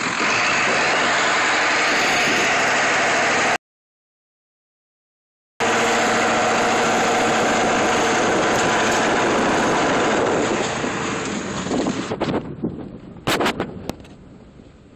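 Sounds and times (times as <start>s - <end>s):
diesel truck engine running: 0.0s - 3.6s, 5.6s - 14.9s.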